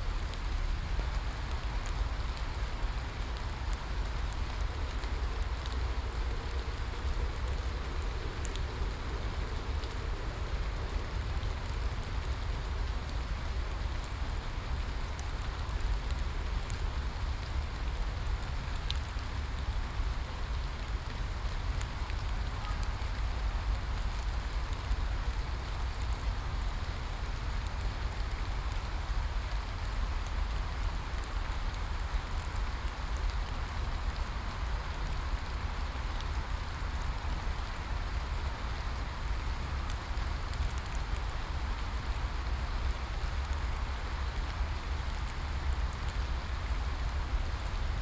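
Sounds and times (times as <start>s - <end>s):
steady rain falling: 0.0s - 48.0s
raindrops ticking: 0.2s - 48.0s.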